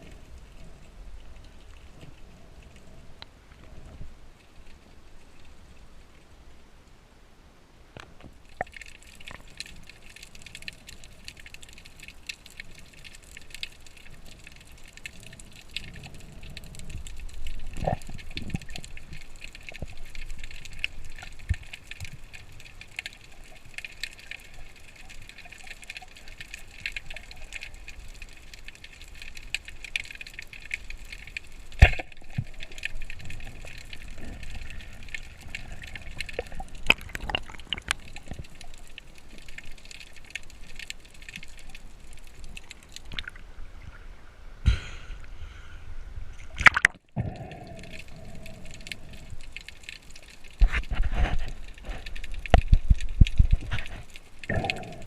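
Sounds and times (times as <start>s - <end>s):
underwater crackle of clicks: 0.0s - 6.3s, 8.0s - 43.5s, 46.4s - 55.0s
rushing water underwater: 0.0s - 6.7s, 8.0s - 55.0s.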